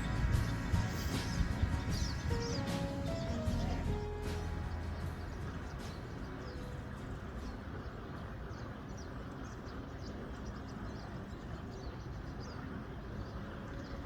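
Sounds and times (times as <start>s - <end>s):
small birds chirping: 0.0s - 14.0s
water noise: 0.0s - 14.0s.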